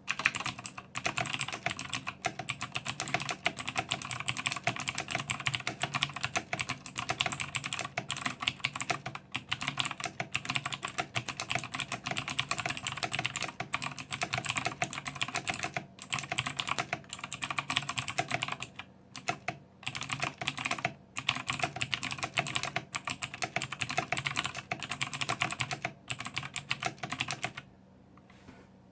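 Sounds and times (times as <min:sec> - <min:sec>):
fast mechanical keyboard typing: 0:00.1 - 0:27.7.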